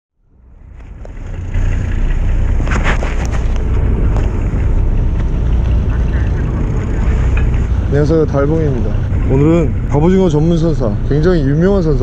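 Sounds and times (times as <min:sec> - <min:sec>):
boat engine rumble: 0:00.2 - 0:12.0.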